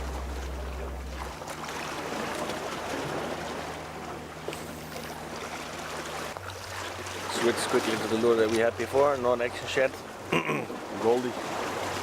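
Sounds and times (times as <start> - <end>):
faint low steady hum: 0.0 - 10.9
water lapping against a wall: 0.0 - 12.0.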